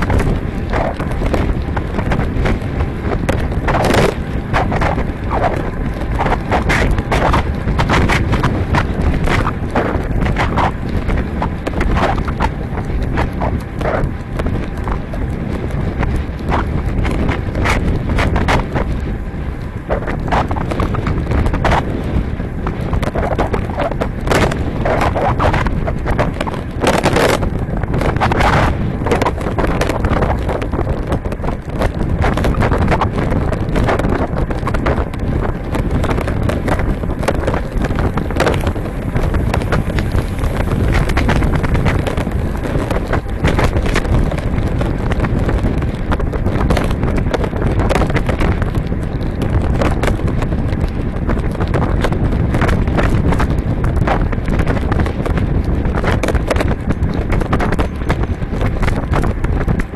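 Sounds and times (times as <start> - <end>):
bike rattling clicks and knocks: 0.0 - 59.9
wind buffeting microphone: 0.0 - 59.9.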